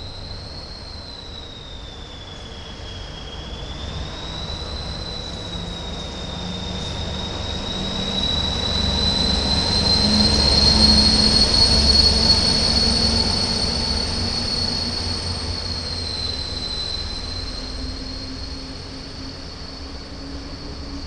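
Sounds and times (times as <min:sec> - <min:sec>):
diesel locomotive passing: 0:00.0 - 0:21.0.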